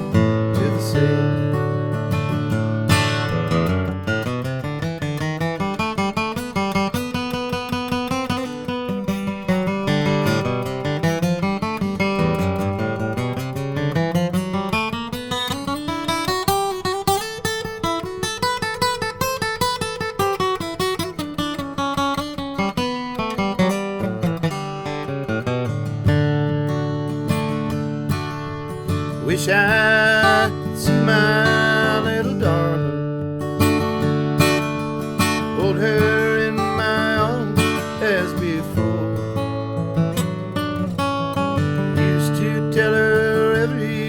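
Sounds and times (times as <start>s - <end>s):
acoustic guitar picking: 0.0s - 44.0s.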